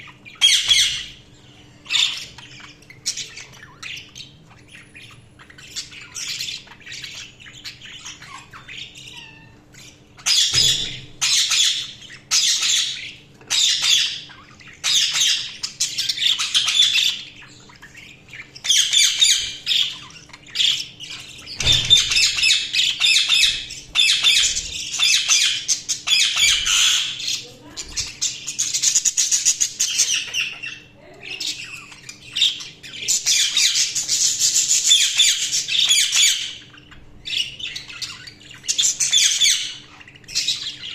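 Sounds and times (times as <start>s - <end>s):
budgerigars chattering and squawking: 0.0s - 40.9s.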